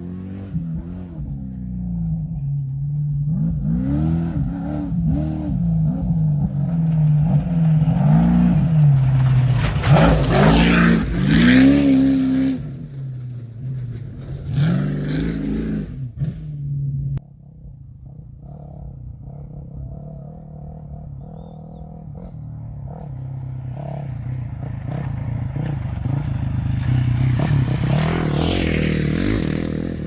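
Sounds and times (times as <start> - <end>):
truck engine revving: 0.0 - 17.2, 18.2 - 30.0.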